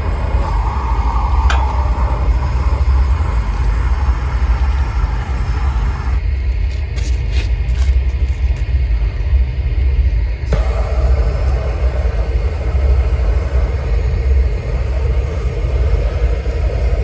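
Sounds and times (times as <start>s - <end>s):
roofing torch roaring: 0.0s - 6.6s, 10.0s - 17.0s.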